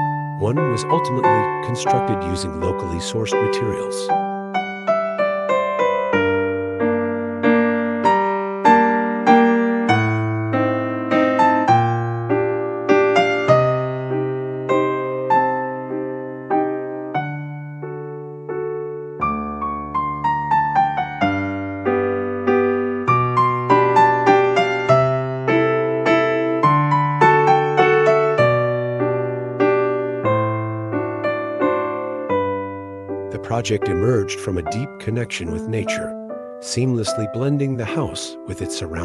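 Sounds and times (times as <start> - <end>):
gentle piano melody: 0.0 - 39.0.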